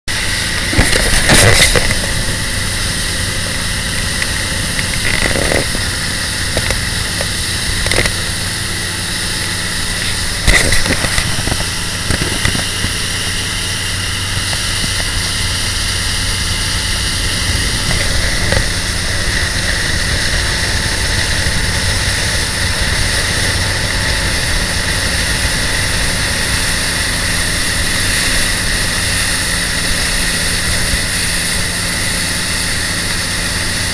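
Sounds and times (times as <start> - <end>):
motorboat engine running: 0.0 - 33.9
rush of wind and water: 0.1 - 33.9.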